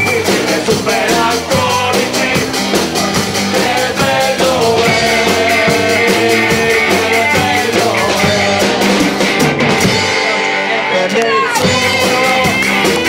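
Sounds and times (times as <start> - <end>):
person singing: 0.0 - 2.6, 3.6 - 9.2, 9.9 - 13.0
live rock band playing: 0.0 - 13.0.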